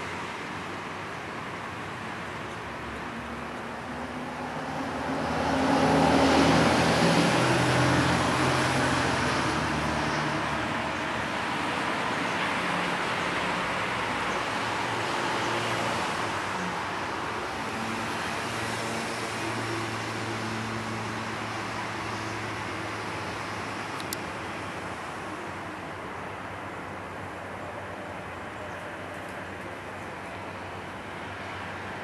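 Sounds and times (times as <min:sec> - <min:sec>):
traffic noise: 0:00.0 - 0:32.0.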